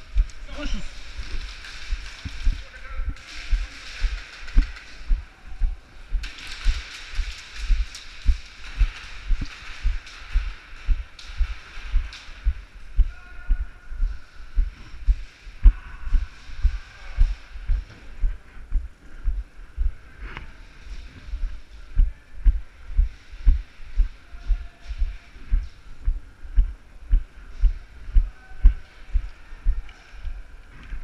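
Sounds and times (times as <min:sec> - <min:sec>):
footsteps on concrete floor: 0:00.0 - 0:31.0.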